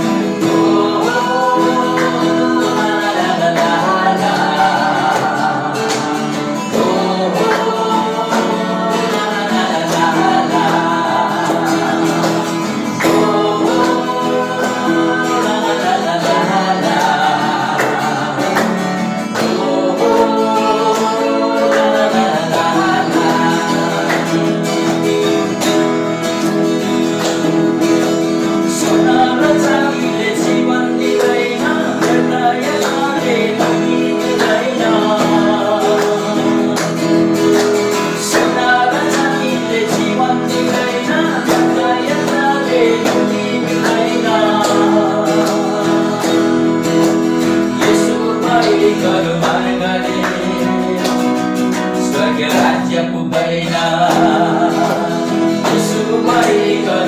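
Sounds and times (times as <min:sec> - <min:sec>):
man and woman singing: 0:00.0 - 0:57.0
strummed acoustic guitar: 0:00.0 - 0:57.0.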